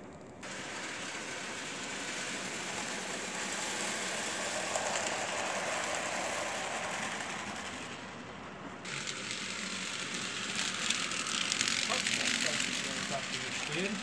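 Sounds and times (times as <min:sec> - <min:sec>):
model train wheels rattling on rails: 0:00.0 - 0:14.0.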